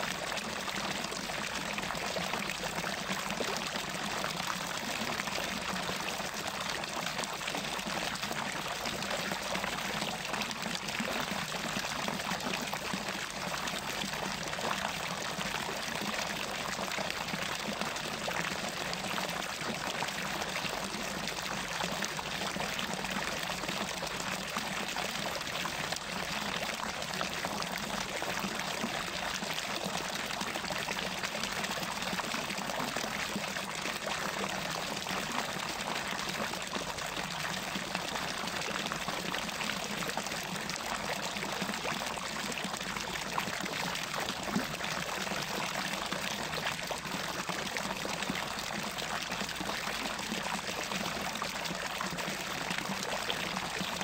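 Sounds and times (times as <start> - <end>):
water pouring and splashing into pool: 0.0 - 54.0.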